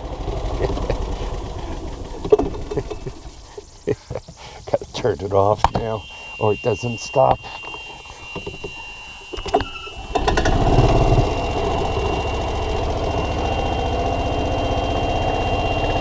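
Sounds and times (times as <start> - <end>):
small engine starting and running: 0.0 - 4.2, 6.0 - 16.0.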